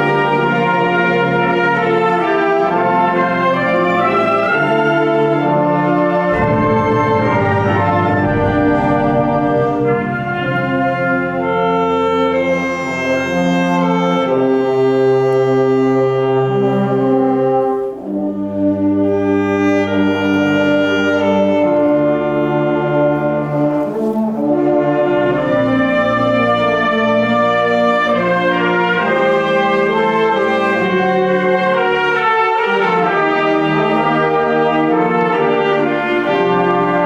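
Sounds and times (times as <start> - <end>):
wind band playing brass chords: 0.0 - 37.0.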